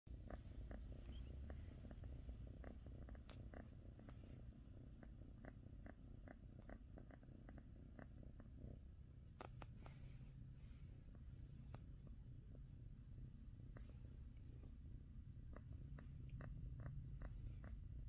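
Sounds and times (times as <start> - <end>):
kitten purring: 0.1 - 18.0.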